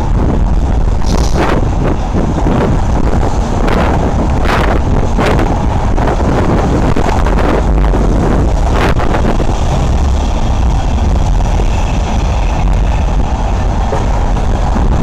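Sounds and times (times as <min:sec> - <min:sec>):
road and wind noise from driving: 0:00.0 - 0:15.0.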